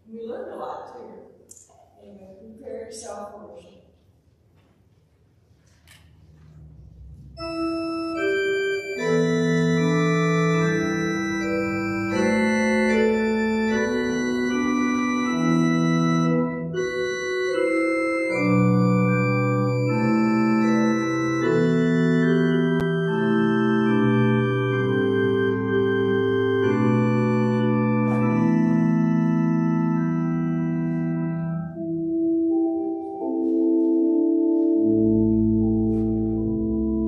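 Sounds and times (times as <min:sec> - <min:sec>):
church organ playing sustained chords: 0:06.4 - 0:37.0.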